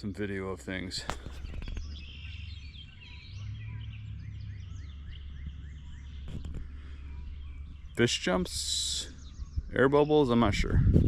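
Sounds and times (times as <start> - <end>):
birds chirping: 0.0 - 11.0
low rumble: 1.0 - 11.0.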